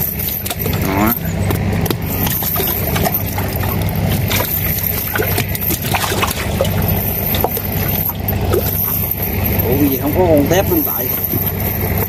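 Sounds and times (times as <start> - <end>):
steady low hum: 0.0 - 12.0
water trickling and dripping: 1.5 - 12.0.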